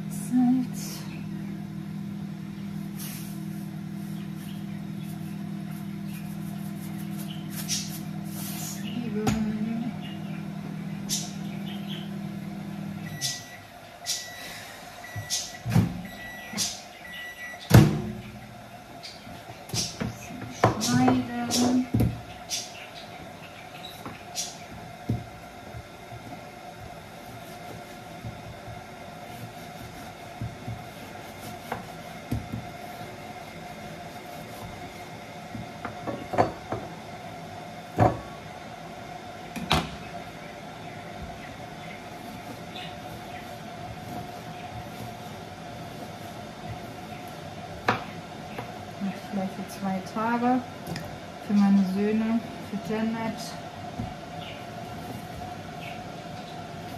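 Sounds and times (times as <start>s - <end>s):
microwave oven humming: 0.0s - 56.9s.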